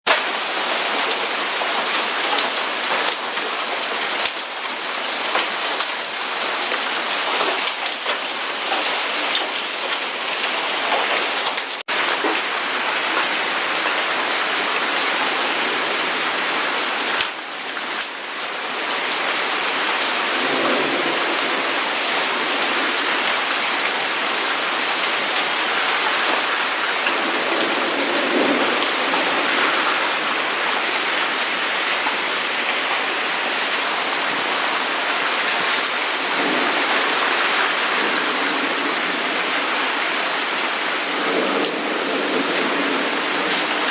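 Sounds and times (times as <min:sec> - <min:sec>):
hail and heavy rain falling: 0:00.1 - 0:43.9.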